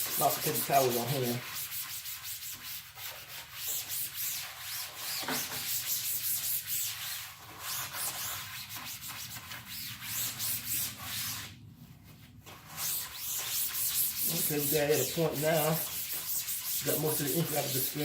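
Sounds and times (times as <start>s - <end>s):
paper towels scrubbing mesh screen: 0.0s - 18.0s.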